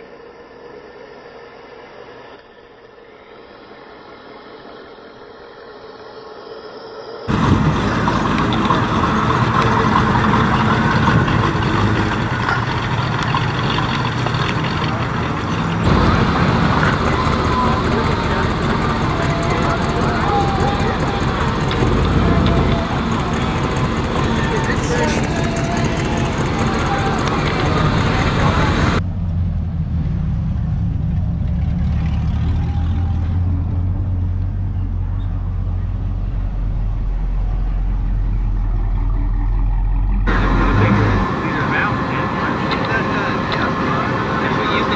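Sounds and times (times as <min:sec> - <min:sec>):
car engine idling: 0:07.3 - 0:44.9.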